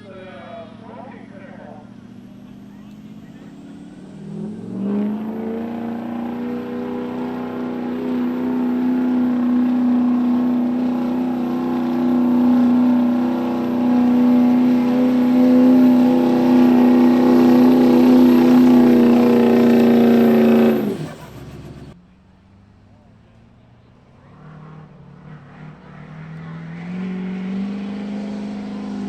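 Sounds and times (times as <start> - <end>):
diesel truck engine at high revs: 0.0 - 29.0.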